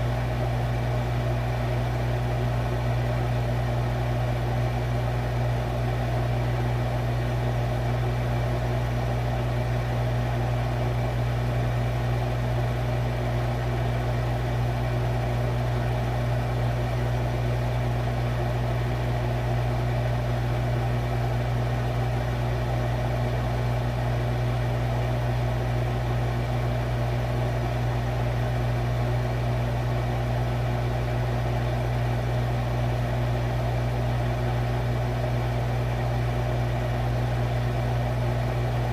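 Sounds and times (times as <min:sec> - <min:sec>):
refrigerator humming: 0:00.0 - 0:38.9.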